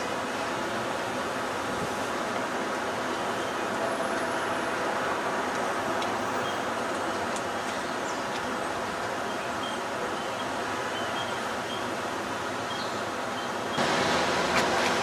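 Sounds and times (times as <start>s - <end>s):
city traffic noise: 0.0s - 15.0s.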